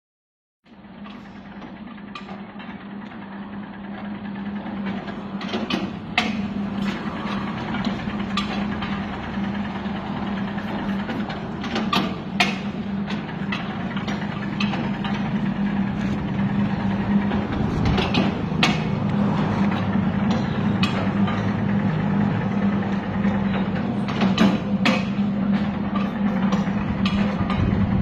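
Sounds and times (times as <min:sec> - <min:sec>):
bagging machine motor hum: 0:00.7 - 0:28.0
machine clacking: 0:01.0 - 0:28.0.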